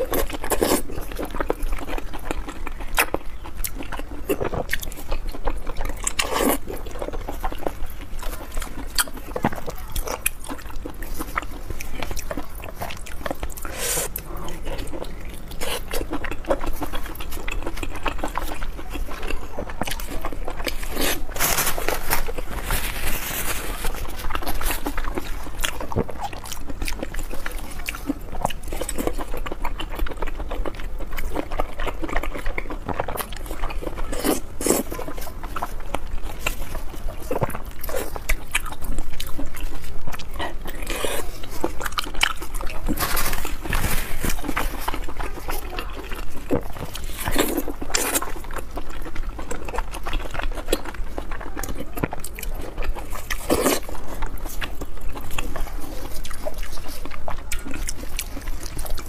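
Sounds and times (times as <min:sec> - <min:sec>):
wet chewing and biting: 0:00.0 - 0:59.0.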